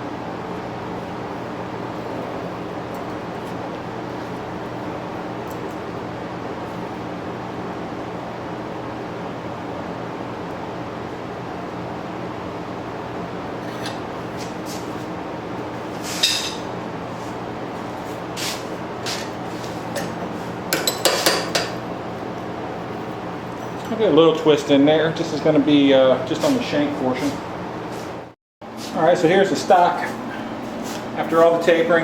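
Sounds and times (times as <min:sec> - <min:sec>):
workshop equipment hum: 0:00.0 - 0:32.0.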